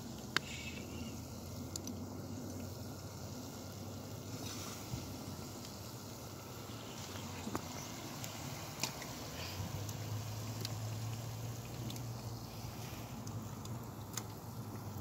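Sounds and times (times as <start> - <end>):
oil popping: 0.0 - 15.0
potatoes sizzling in hot oil: 0.0 - 15.0.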